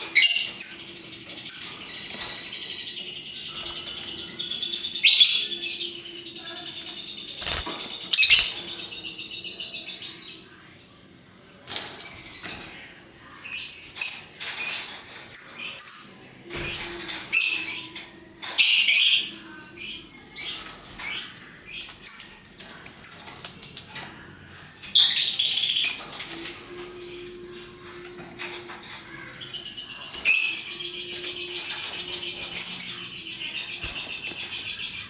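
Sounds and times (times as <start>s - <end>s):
lovebirds chirping and chattering: 0.0s - 35.0s.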